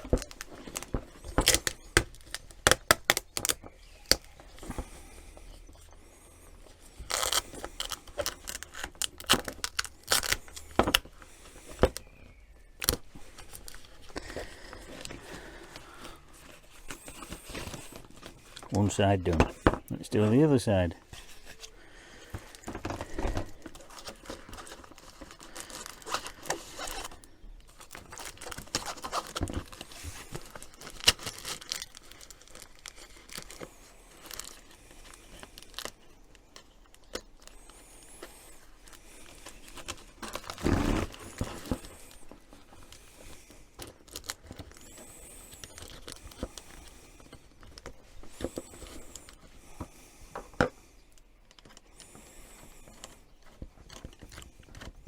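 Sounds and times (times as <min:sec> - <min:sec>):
flexible hose crinkling and rustling: 0:00.0 - 0:55.0.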